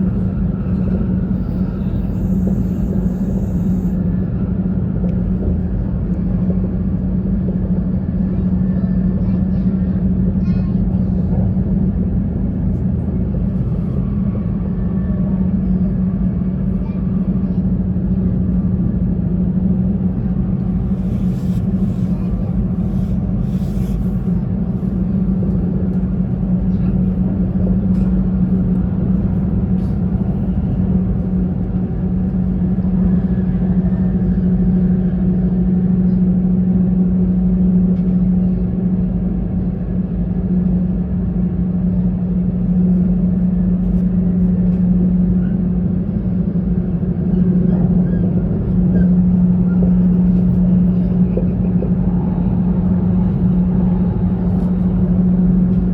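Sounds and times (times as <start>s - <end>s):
train rumbling from inside: 0.0s - 55.9s.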